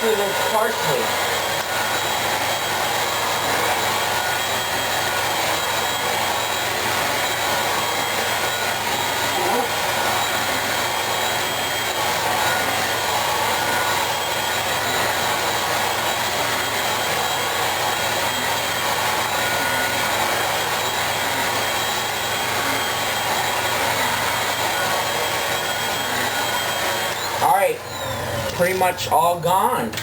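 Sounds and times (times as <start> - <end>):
stick vacuum running: 0.0 - 30.0.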